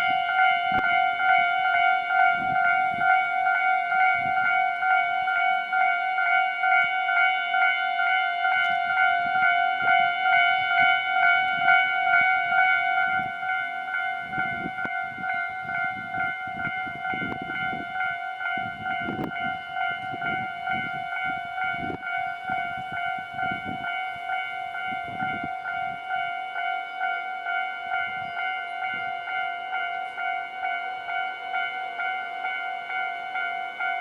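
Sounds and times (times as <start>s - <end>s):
level-crossing warning bell: 0.0s - 34.0s.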